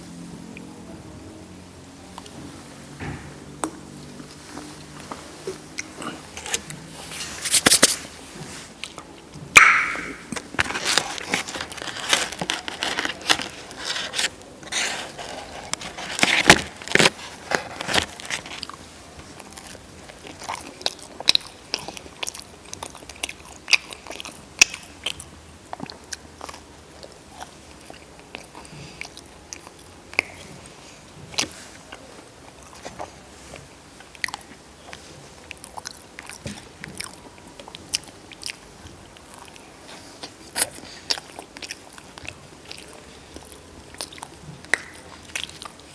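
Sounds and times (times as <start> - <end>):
person chewing crunchy food: 4.8 - 8.0, 8.8 - 45.9.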